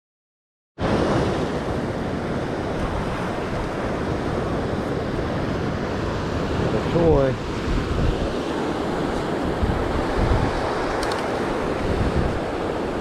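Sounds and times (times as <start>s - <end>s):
wind on microphone: 0.8s - 13.0s.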